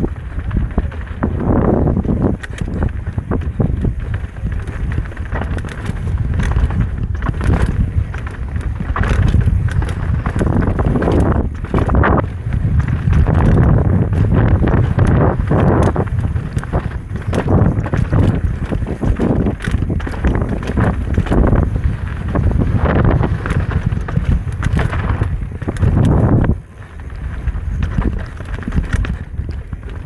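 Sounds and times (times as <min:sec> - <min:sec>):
bike clattering over rocks: 0:00.0 - 0:30.0
tyres rumbling over dirt: 0:00.0 - 0:30.0
wind buffeting the microphone: 0:00.0 - 0:30.0.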